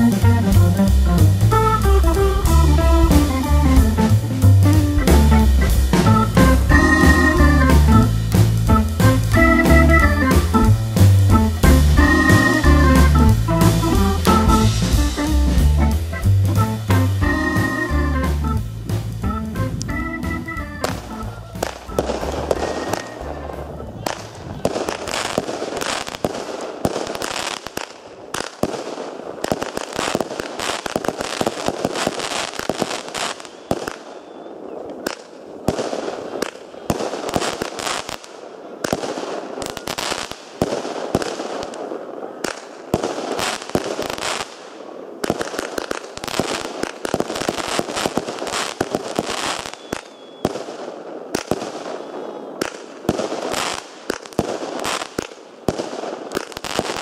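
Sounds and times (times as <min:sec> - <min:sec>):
fireworks cracks and bangs: 0:00.0 - 0:57.0.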